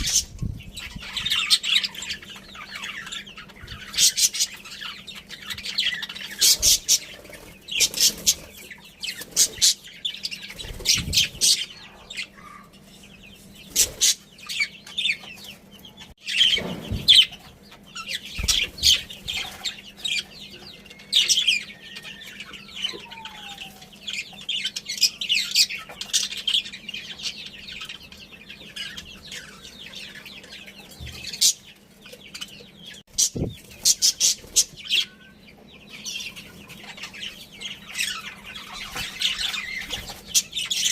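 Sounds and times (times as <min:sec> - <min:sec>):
birds chirping and chattering: 0:00.0 - 0:40.9.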